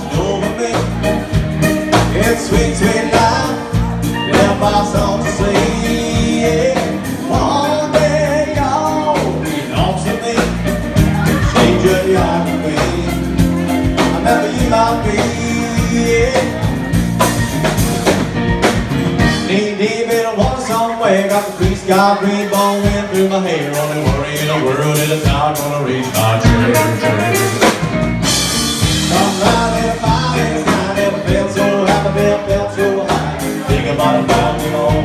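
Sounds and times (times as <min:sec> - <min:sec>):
person singing: 0:00.0 - 0:18.2, 0:19.2 - 0:27.9, 0:28.8 - 0:35.0
bass guitar: 0:00.0 - 0:35.0
electric guitar: 0:00.0 - 0:35.0
steady drum beat: 0:00.0 - 0:35.0.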